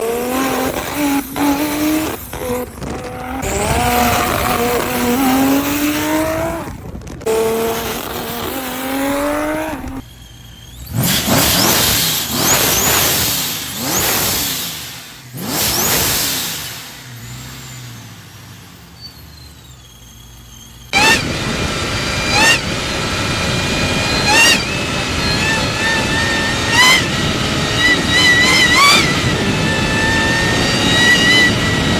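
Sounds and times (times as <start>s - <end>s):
car engine revving: 0.0s - 31.9s.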